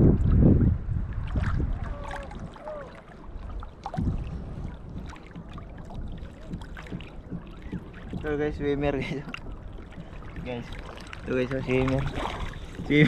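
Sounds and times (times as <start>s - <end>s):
low splash: 0.0s - 13.0s
seawater sloshing and splashing: 0.0s - 13.0s
wind rumbling on microphone: 0.0s - 13.0s.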